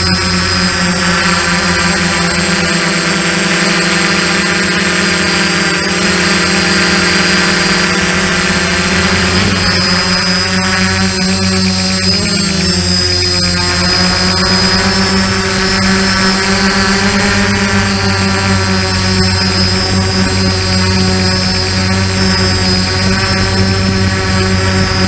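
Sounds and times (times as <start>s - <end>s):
drone motors and propellers whining: 0.0s - 25.0s.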